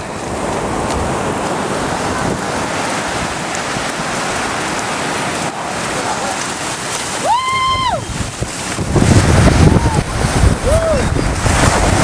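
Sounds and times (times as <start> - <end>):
ocean surf splashing: 0.0 - 12.0
wind buffeting microphone: 0.0 - 12.0.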